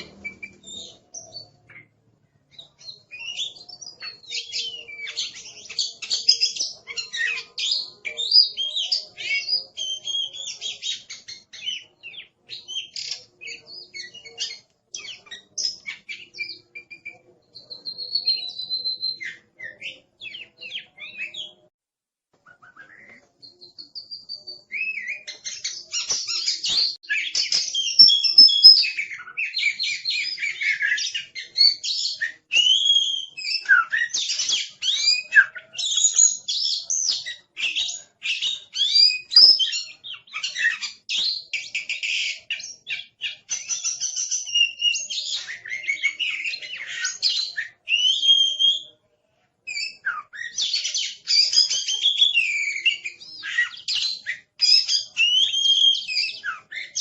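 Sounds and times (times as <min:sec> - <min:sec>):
bird singing whistled notes: 0:00.0 - 0:21.7, 0:22.4 - 0:49.0, 0:49.7 - 0:57.0.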